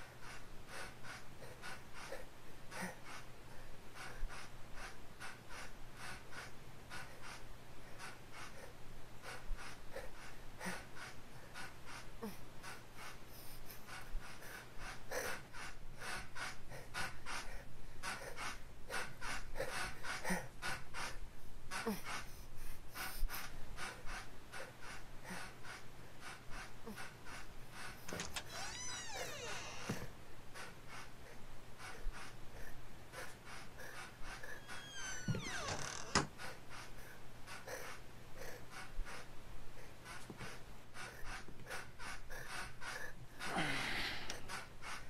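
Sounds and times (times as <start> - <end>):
rapid heavy breathing: 0.0 - 45.0.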